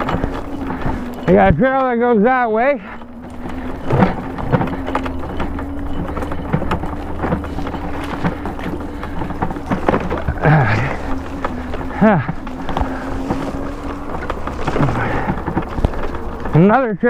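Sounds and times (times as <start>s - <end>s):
bike knocks and rattles: 0.0s - 17.0s
electric motor whine: 0.0s - 17.0s.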